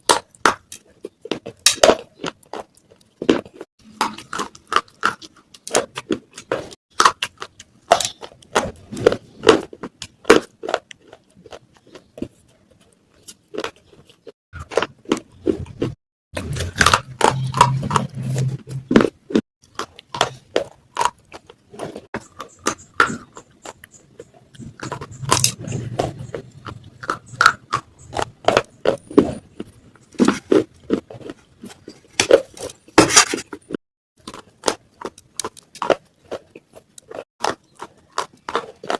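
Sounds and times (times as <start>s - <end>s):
clay pot pieces crunched and chewed: 0.0s - 38.9s.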